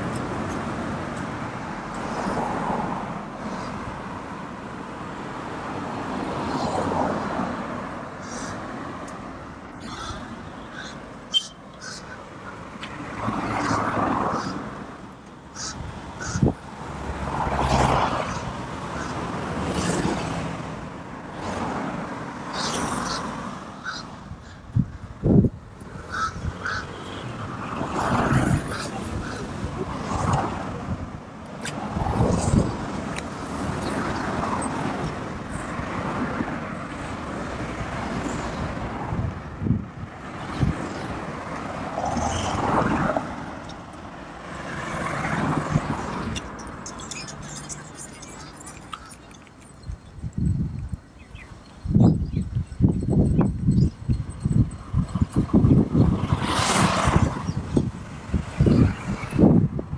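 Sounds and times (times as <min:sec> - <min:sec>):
car road and engine noise: 0:00.0 - 0:59.9
vehicles passing: 0:00.0 - 0:59.9.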